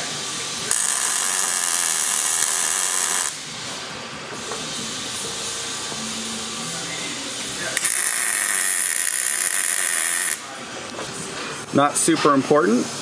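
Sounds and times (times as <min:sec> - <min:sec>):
welder hissing: 0:00.0 - 0:11.6.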